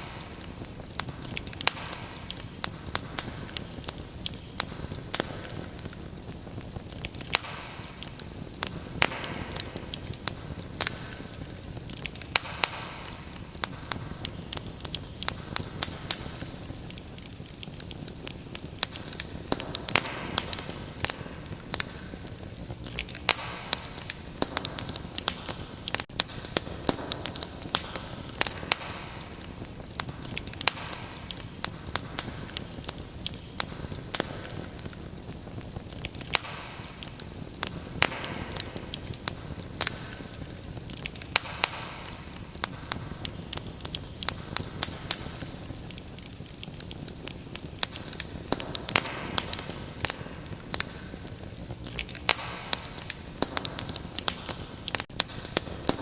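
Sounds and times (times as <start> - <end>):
low hiss of burning: 0.0 - 56.0
sharp pops and snaps: 0.0 - 56.0
wood fire crackling: 0.0 - 56.0.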